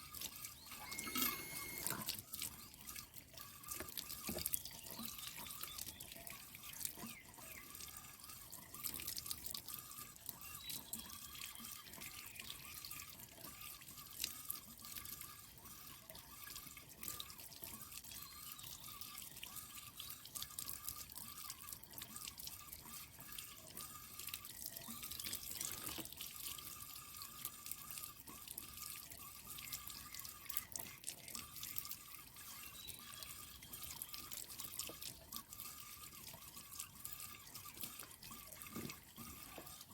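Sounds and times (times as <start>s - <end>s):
water dripping and splashing: 0.0s - 39.9s.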